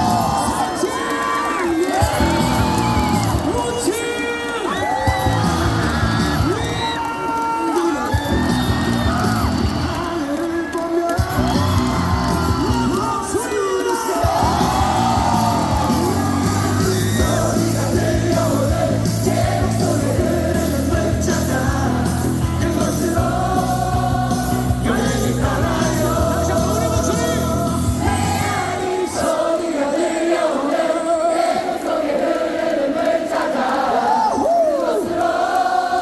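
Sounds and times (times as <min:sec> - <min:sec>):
crowd singing in unison: 0:00.0 - 0:03.9, 0:11.0 - 0:36.0.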